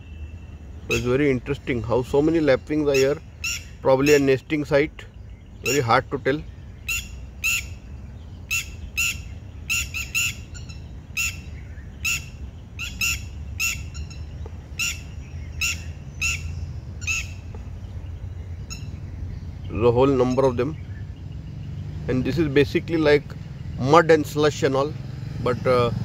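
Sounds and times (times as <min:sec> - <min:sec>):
lapwings calling: 0:00.0 - 0:25.9
steady low rumble: 0:00.0 - 0:26.0.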